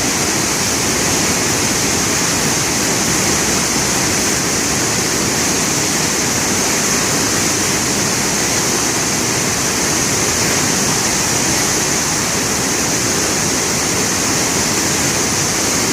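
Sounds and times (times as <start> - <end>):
floodwater rushing in a river: 0.0 - 15.9.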